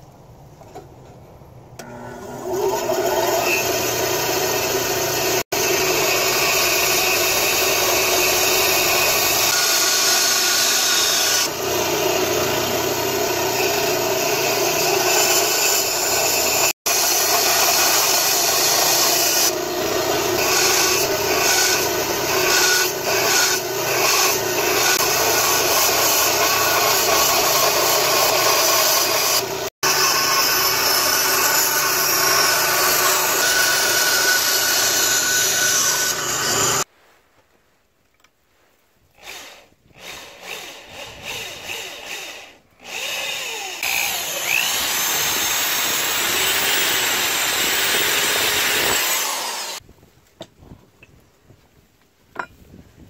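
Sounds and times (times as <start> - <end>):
bandsaw motor hum: 1.8 - 36.8, 39.2 - 49.8
bandsaw cutting wood: 1.8 - 36.9, 39.2 - 49.8.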